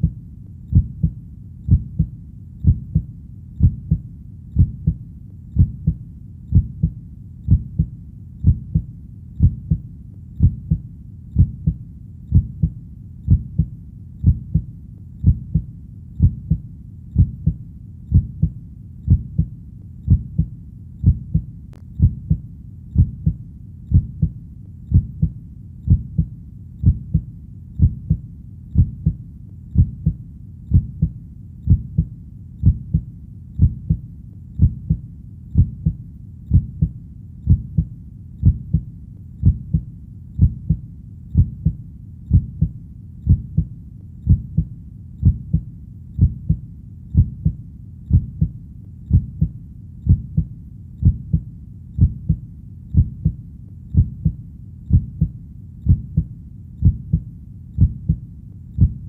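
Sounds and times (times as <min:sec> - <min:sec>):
faint low hum: 0:00.0 - 0:59.0
heartbeat thumps: 0:00.0 - 0:59.0.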